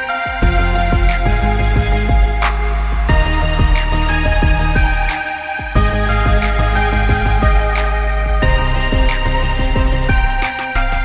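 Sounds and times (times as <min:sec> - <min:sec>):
electronic music with synth chords: 0:00.0 - 0:11.0.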